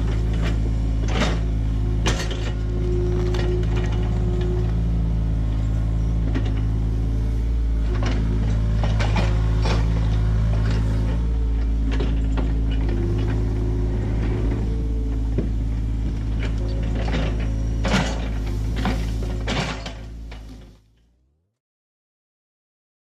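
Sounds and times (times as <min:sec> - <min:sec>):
metal clanks and rattles: 0:00.0 - 0:07.0, 0:07.8 - 0:20.8
excavator diesel engine running: 0:00.0 - 0:21.4.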